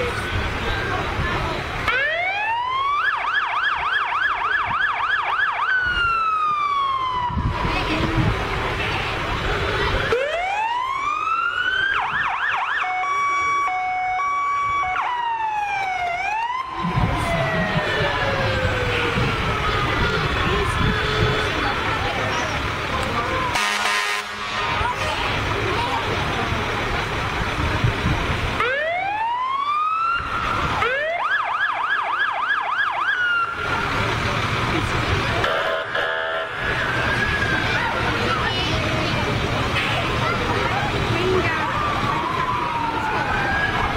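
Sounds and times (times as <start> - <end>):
fire engine siren: 0.0 - 43.9.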